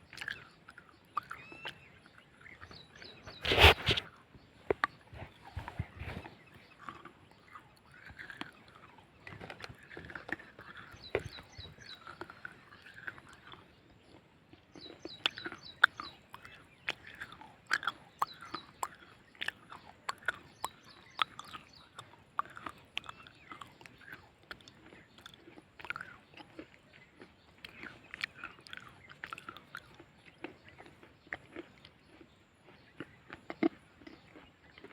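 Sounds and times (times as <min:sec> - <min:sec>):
person chewing and crunching clay: 0:00.0 - 0:34.9.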